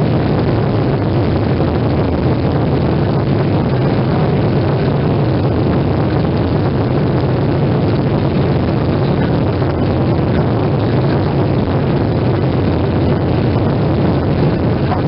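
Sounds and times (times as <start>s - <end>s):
jet engines roaring in cabin: 0.0s - 15.0s
low hum: 0.0s - 15.0s.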